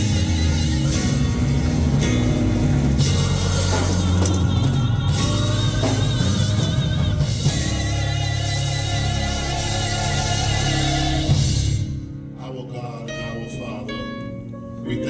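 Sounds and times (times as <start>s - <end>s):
bass line: 0.0s - 12.4s
drum kit: 0.0s - 12.4s.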